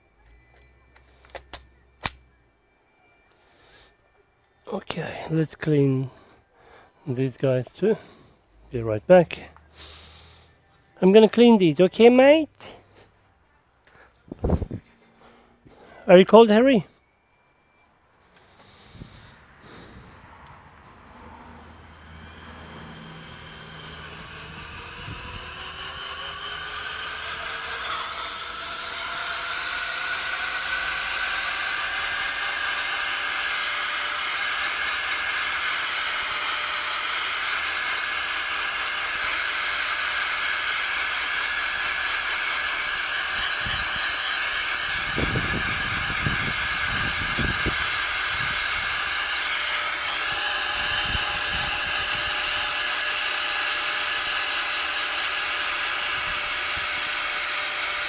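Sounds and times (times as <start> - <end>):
fan motor whine: 0.0 - 58.0.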